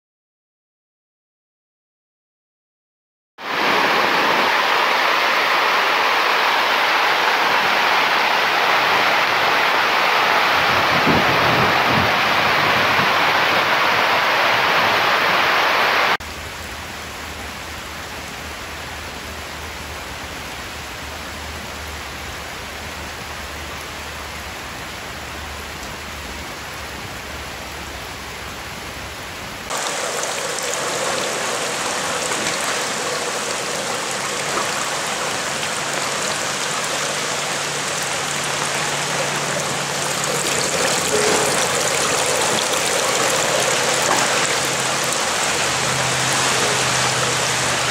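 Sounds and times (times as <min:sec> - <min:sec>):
rain on fabric roof: 0:03.4 - 0:47.9.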